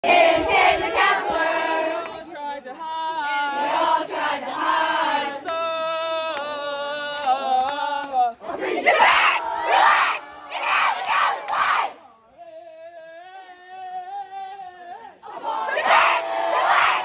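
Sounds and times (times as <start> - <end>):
group singing together: 0.0 - 12.2, 15.2 - 17.0.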